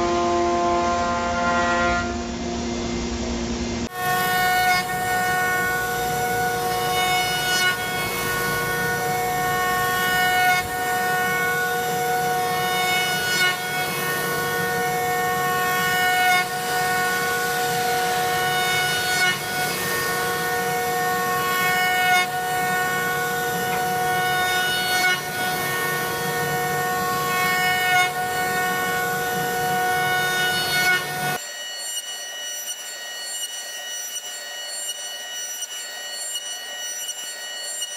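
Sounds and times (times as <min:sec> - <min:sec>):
power tool whining cutting wood: 0:03.8 - 0:37.9.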